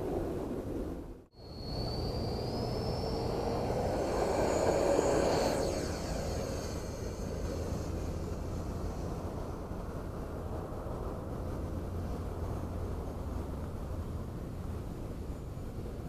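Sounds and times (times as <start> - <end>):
model jet fan whining: 1.3 - 16.0.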